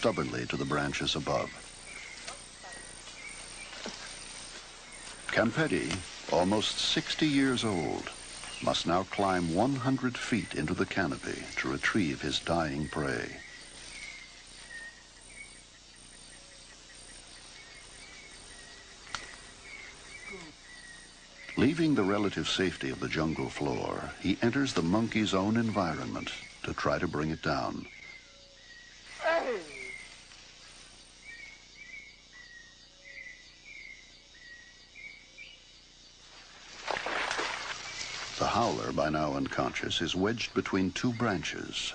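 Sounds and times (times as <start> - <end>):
high chirping calls: 0.0 - 35.6
insects hissing: 0.0 - 41.9.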